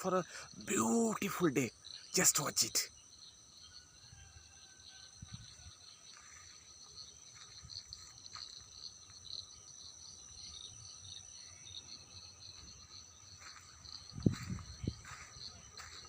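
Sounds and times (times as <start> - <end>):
insects trilling high: 0.0 - 16.0.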